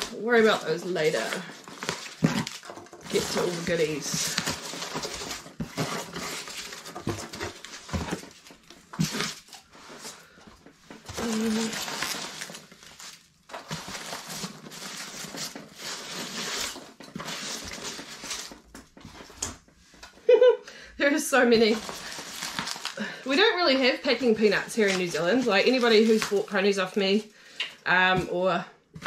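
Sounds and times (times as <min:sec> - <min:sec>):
packing peanuts rustling and clattering: 0:00.0 - 0:20.0, 0:21.2 - 0:28.2.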